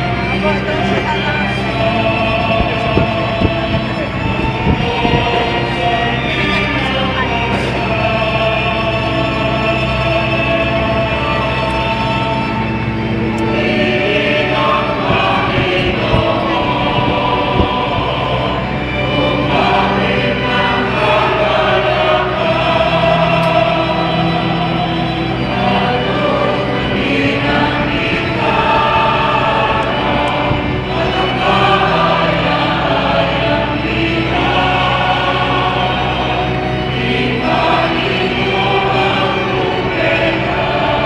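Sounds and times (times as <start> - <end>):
choir singing a hymn: 0.0 - 41.0
low accompaniment: 0.0 - 41.0.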